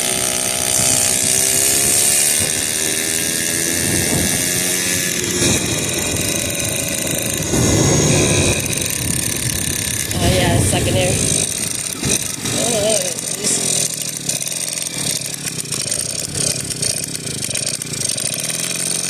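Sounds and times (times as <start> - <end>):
moped two-stroke engine buzzing: 0.0 - 19.0.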